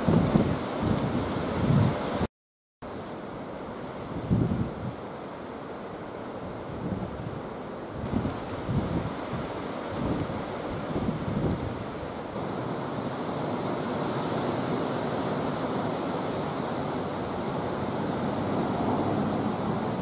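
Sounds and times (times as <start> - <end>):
strong wind roaring: 0.0 - 2.3, 4.0 - 5.0, 6.5 - 20.0.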